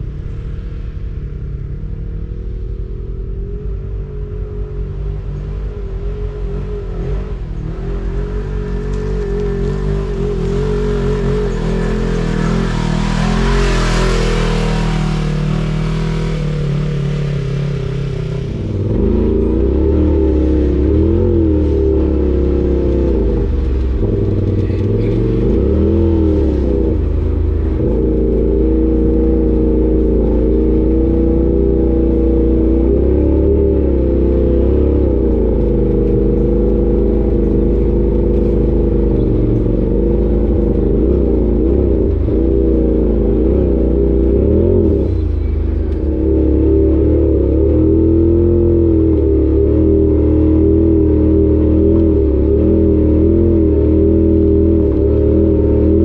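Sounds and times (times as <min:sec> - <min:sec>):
utility vehicle engines running: 0:00.0 - 0:56.0
vehicle driving past: 0:00.0 - 0:56.0
engine revving under load: 0:04.4 - 0:56.0.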